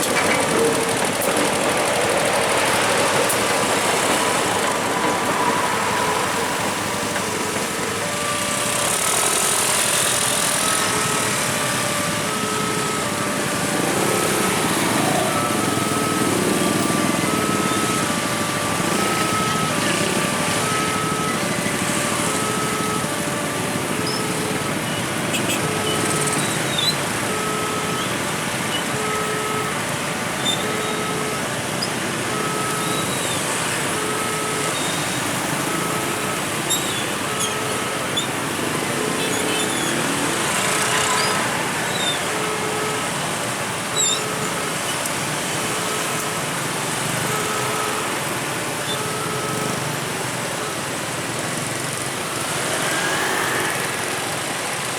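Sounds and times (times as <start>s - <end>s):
motorcycle and car engines: 0.0s - 54.9s.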